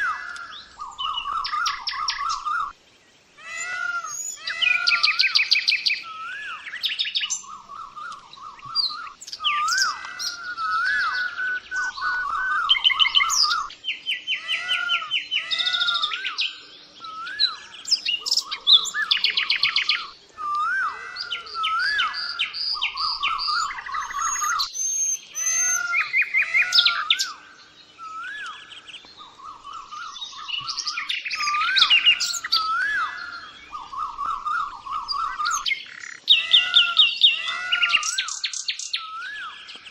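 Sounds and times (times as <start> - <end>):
songbirds trilling and whistling: 0.0 - 39.9.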